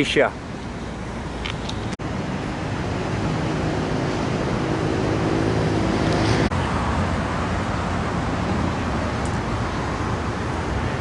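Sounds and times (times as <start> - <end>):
road traffic noise: 0.0 - 11.0
vehicle engine hum: 0.0 - 11.0.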